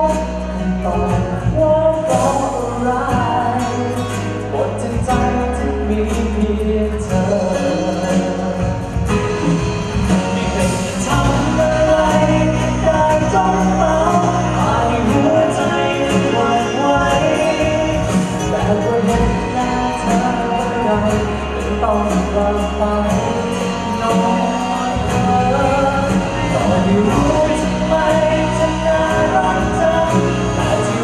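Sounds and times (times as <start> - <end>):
backing music with deep bass: 0.0 - 31.0
man singing into microphone: 0.0 - 31.0.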